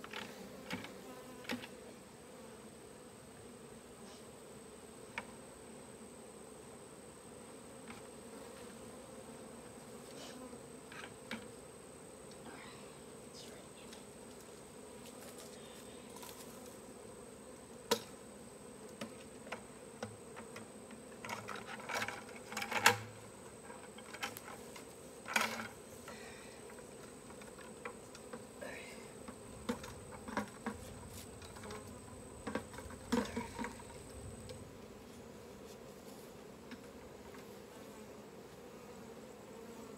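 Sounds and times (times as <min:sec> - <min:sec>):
honeybee swarm buzzing: 0:00.0 - 0:39.9.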